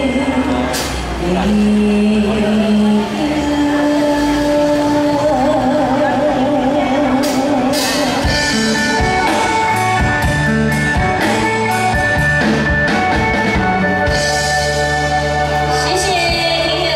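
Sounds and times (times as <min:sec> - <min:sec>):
live band instrumental: 0:00.0 - 0:16.9.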